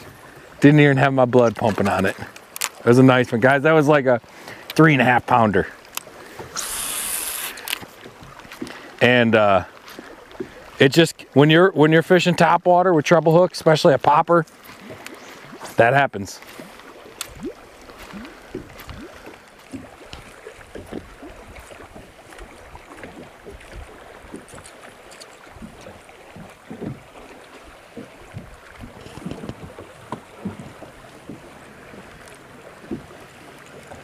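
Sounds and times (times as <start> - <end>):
waves lapping against boat hull: 0.0 - 34.0.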